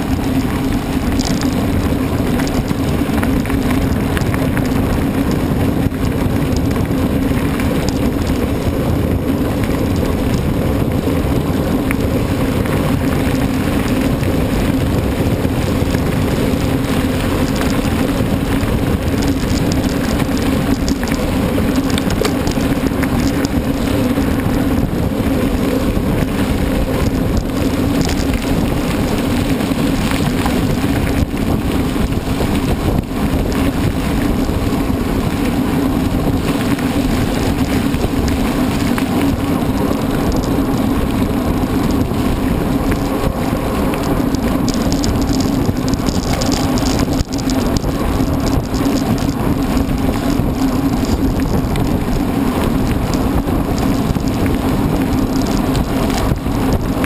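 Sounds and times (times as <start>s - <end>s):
bike tyre and trail noise: 0.0s - 57.0s
wind on microphone: 0.0s - 57.0s.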